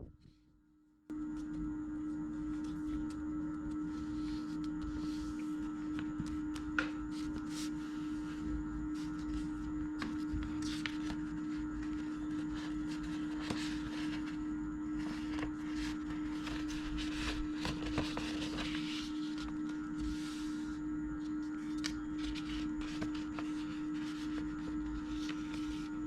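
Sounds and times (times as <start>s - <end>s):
steady low hum: 0.0s - 26.0s
paper folding and crinkling: 1.3s - 26.0s.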